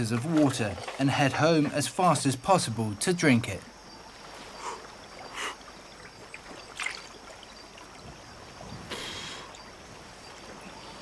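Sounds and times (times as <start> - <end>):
water splashing and lapping: 0.0 - 2.7, 3.3 - 11.0.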